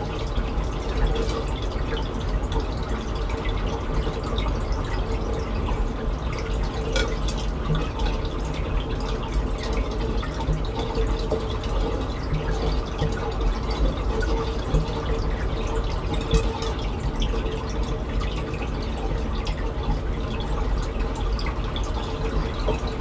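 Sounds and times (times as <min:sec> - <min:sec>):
trickle of running water: 0:00.0 - 0:23.0
water drips and splashes: 0:00.0 - 0:23.0.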